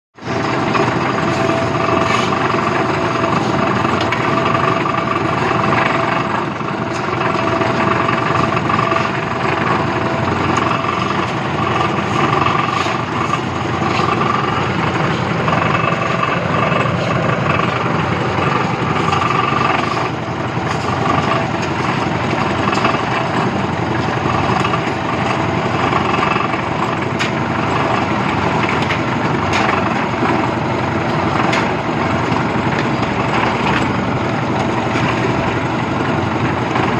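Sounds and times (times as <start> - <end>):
concrete mixer running: 0.2 - 36.9
mixer knocking: 0.2 - 36.9.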